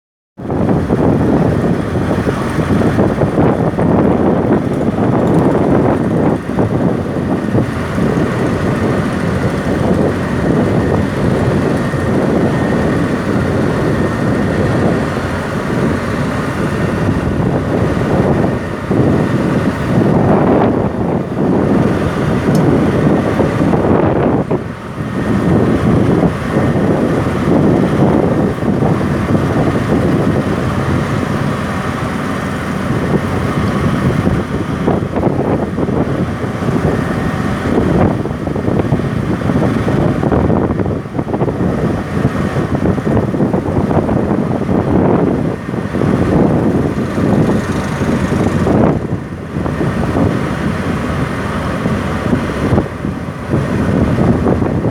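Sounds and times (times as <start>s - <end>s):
boat engines rumbling: 0.4s - 54.9s
wind buffeting microphone: 0.4s - 54.9s.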